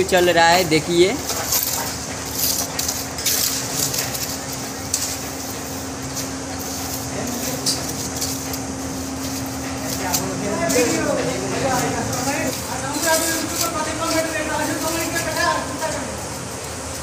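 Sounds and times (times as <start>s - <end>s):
steady mechanical hum: 0.0s - 17.0s
trowel scraping mortar: 1.2s - 15.6s.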